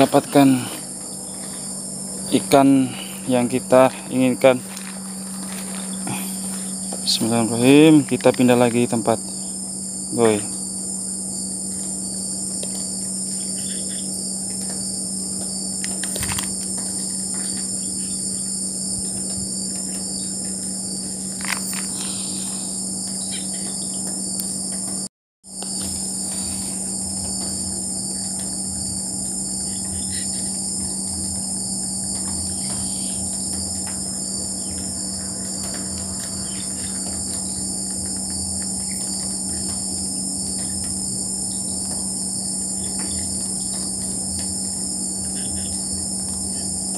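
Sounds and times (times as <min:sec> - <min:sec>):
crickets and insects shrilling: 0:00.0 - 0:46.9
low hum: 0:00.0 - 0:46.9.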